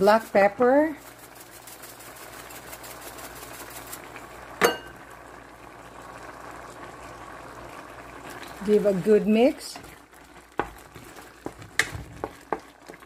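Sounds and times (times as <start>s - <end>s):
stew bubbling in a pan: 0.0s - 13.0s.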